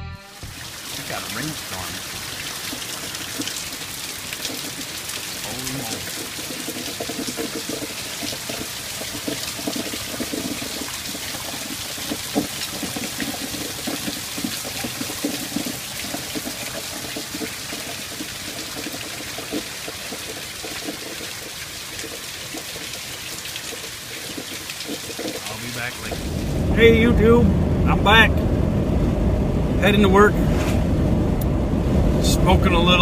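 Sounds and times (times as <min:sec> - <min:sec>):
heavy rain hissing: 0:00.4 - 0:28.3
raindrops pattering: 0:00.4 - 0:28.4.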